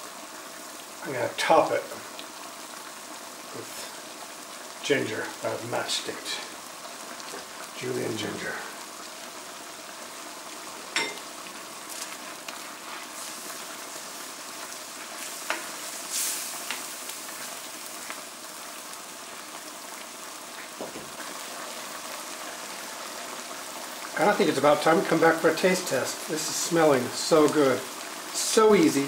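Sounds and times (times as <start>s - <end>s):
curry sizzling and bubbling: 0.0s - 29.0s.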